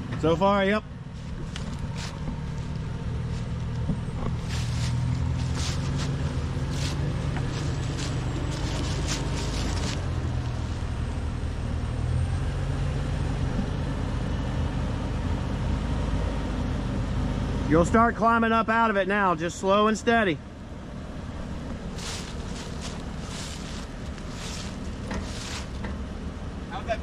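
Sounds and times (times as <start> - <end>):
suv engine running low: 0.0 - 27.0.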